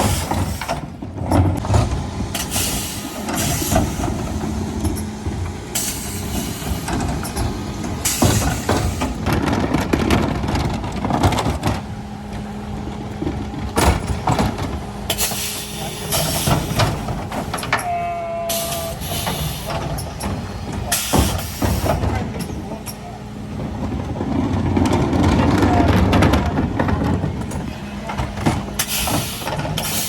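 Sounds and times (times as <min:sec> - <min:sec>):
refuse truck engine running: 0:00.0 - 0:30.0.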